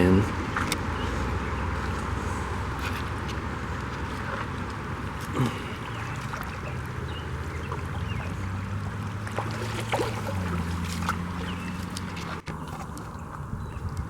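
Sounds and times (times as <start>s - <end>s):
creek water trickling: 0.0s - 14.0s
road traffic hum: 0.0s - 14.0s.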